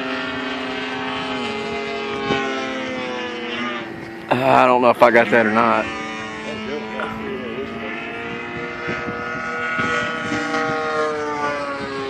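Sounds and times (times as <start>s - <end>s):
model plane engine droning: 0.0s - 12.0s.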